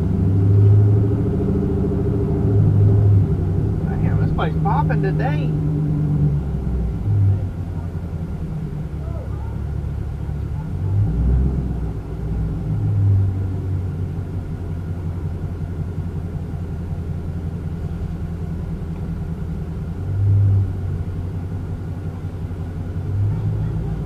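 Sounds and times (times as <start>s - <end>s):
car exhaust drone: 0.0s - 24.0s.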